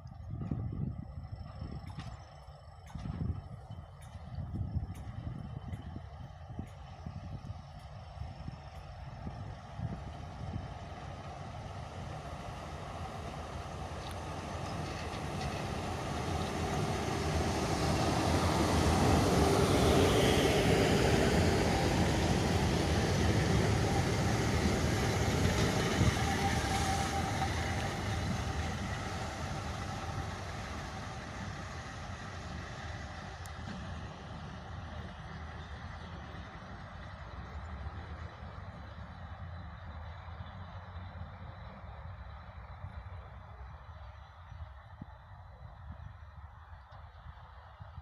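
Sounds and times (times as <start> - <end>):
train passing: 0.0 - 48.0.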